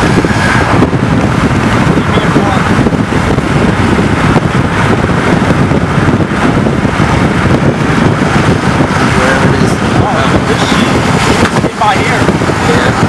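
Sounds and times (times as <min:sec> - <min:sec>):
moving vehicle rumble: 0:00.0 - 0:13.0
wind buffeting microphone: 0:00.0 - 0:13.0.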